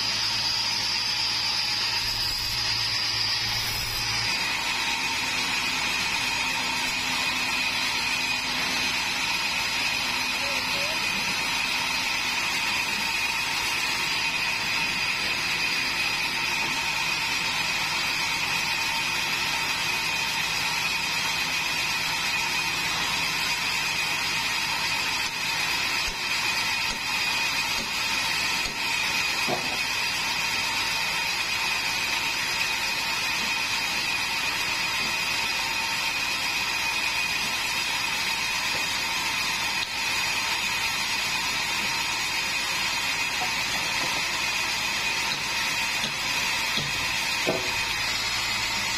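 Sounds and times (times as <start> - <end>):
bandsaw running idle: 0.0 - 48.9.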